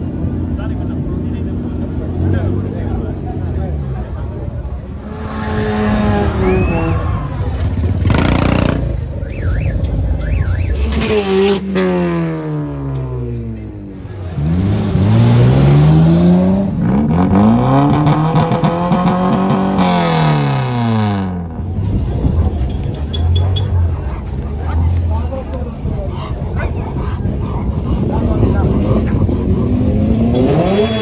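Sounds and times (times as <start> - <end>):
car engine revving: 1.7 - 26.5, 27.2 - 31.0.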